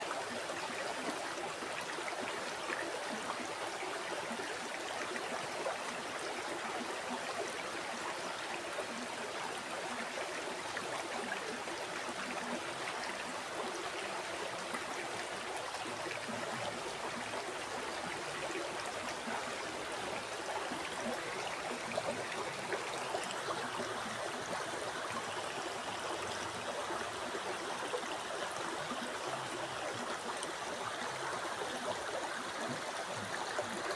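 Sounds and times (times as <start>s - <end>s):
river water babbling over rocks: 0.1s - 33.9s.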